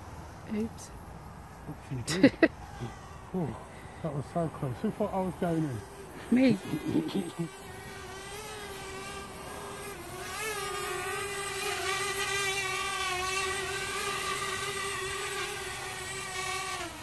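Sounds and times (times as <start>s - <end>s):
drone propellers whining: 2.6s - 17.0s.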